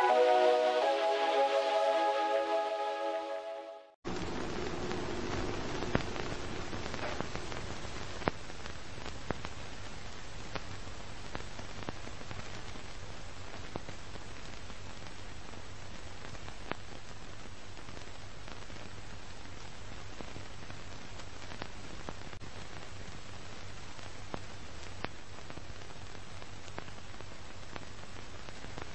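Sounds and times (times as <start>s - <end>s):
film soundtrack hiss: 0.0s - 28.9s.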